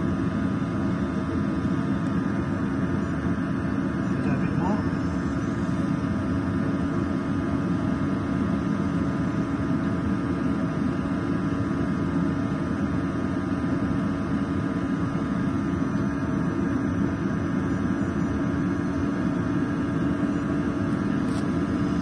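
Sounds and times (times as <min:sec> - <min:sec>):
boiler burner roaring: 0:00.0 - 0:22.0
constant hum: 0:00.0 - 0:22.0.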